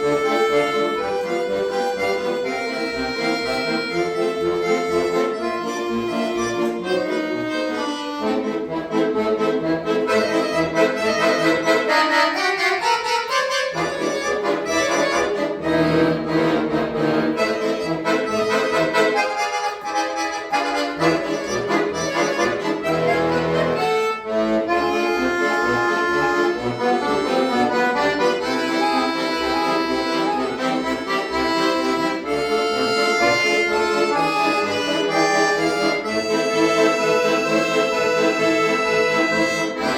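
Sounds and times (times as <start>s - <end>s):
accordion duet: 0.0s - 39.9s.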